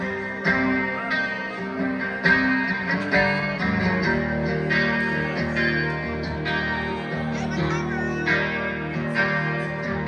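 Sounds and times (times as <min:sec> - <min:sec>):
bass notes: 0:00.0 - 0:10.0
electric guitar strumming chords: 0:00.0 - 0:10.0.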